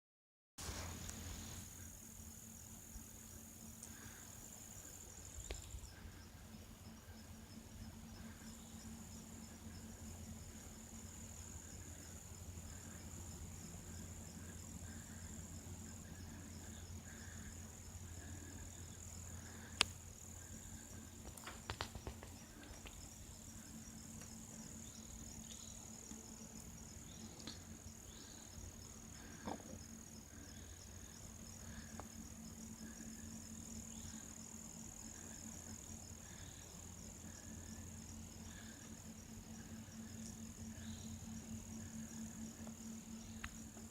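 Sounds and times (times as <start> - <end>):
crickets and insects droning: 0.6 - 43.9.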